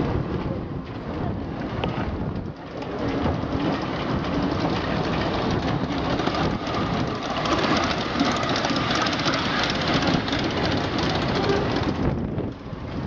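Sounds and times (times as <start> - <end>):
wheels rattling on rails: 0.0 - 13.0.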